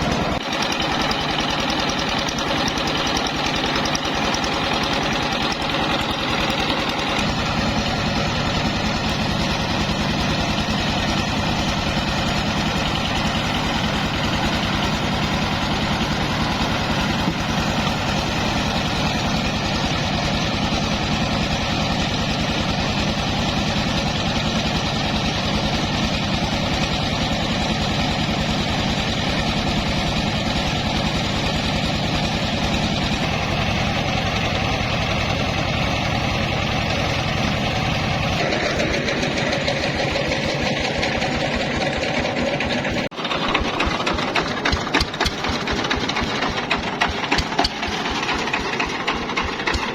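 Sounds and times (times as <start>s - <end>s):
rice mill mechanical hiss: 0.0s - 42.0s
engine drone: 0.0s - 49.9s.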